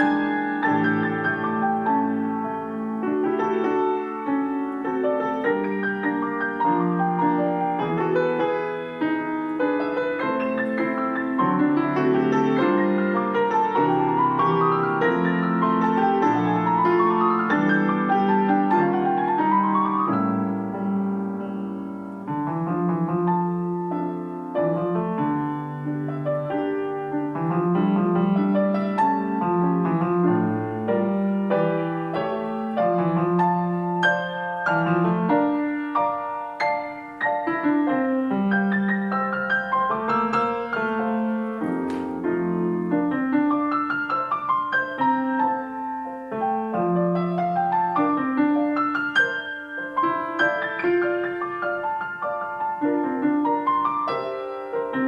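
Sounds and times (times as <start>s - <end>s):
piano duet: 0.0s - 55.0s.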